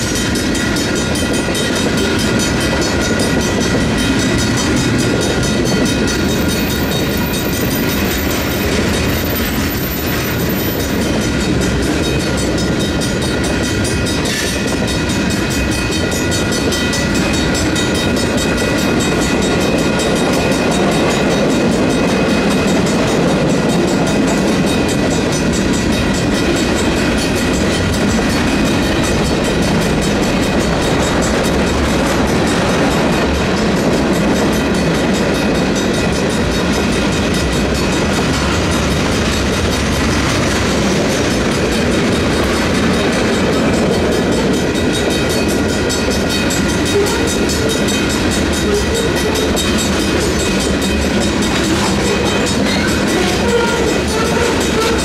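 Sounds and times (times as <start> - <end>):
electronic crossing bell: 0.0 - 55.0
freight train rolling on rails: 0.0 - 55.0
mechanical crossing bell: 0.0 - 55.0.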